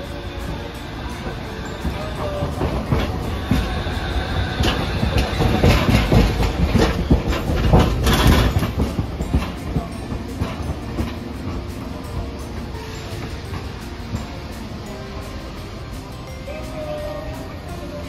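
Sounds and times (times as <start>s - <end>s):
steel wheels knocking on track joints: 0.0s - 18.0s
streetcar rumble: 0.0s - 18.0s.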